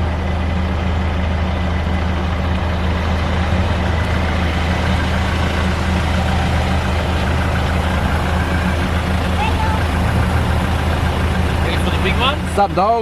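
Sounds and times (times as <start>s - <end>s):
engine low drone: 0.0s - 13.0s
road noise: 0.0s - 13.0s.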